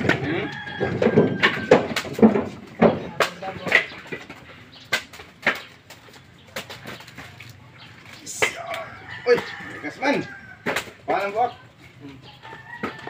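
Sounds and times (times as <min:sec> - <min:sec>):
coconuts knocking into baskets: 0:00.0 - 0:07.4, 0:08.2 - 0:11.6, 0:12.4 - 0:13.0.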